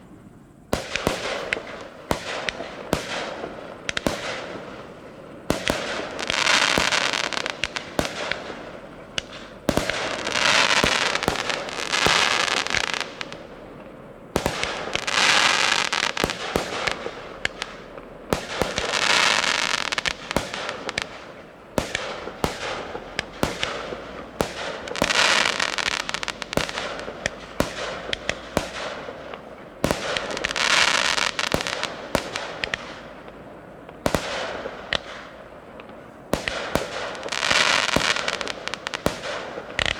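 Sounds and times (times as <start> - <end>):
fireworks bangs: 0.0 - 39.9
fireworks crackling hiss: 0.0 - 39.9.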